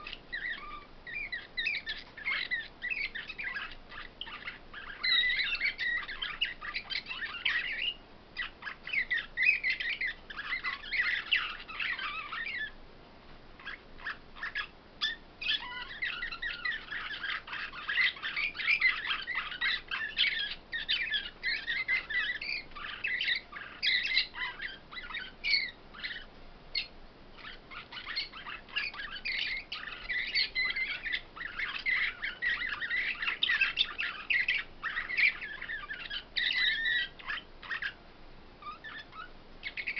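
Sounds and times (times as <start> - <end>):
songbirds chirping trills: 0.0 - 12.8, 13.4 - 39.9.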